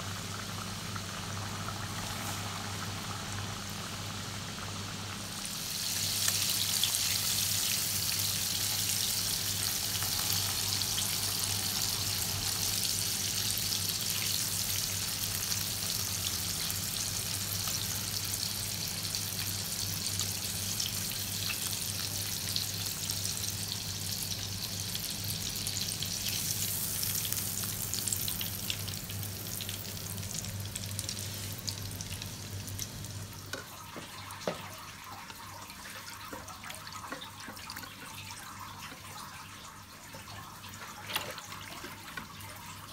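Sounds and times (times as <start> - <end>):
chicken sizzling in hot oil: 0.0 - 42.9.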